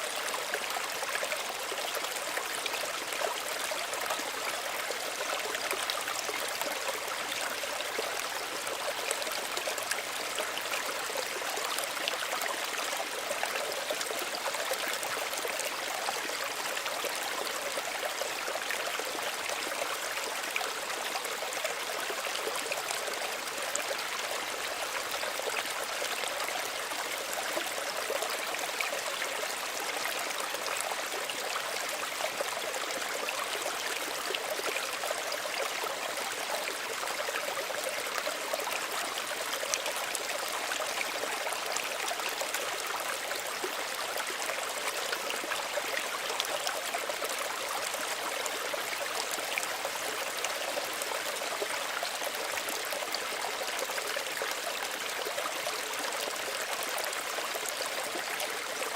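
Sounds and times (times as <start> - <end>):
stream trickling: 0.0 - 58.9.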